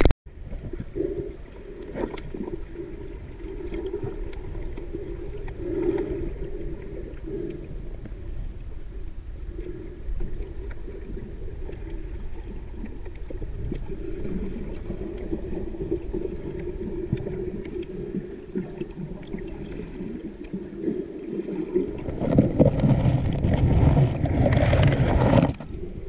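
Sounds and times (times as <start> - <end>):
faint underwater clicks: 0.0 - 26.0
underwater rumble of moving water: 0.0 - 26.0.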